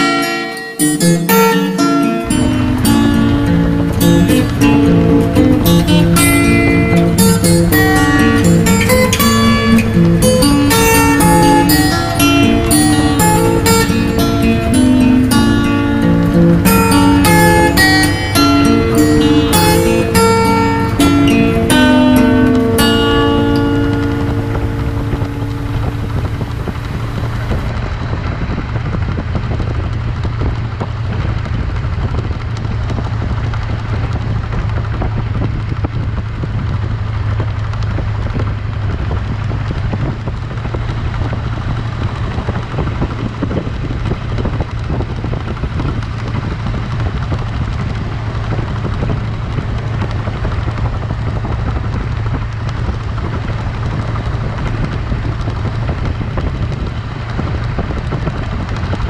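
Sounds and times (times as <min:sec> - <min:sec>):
road noise hiss: 0:00.0 - 0:59.0
vehicle engine drone: 0:00.0 - 0:59.0.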